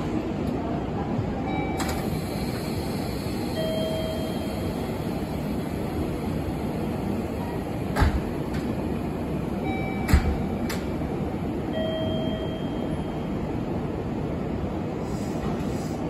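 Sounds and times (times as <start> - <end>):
stationary train hum: 0.0 - 16.0.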